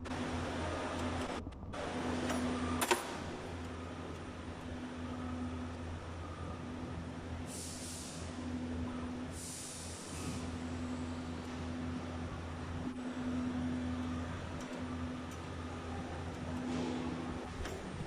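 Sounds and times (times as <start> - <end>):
wire bending machine running: 0.0 - 18.0.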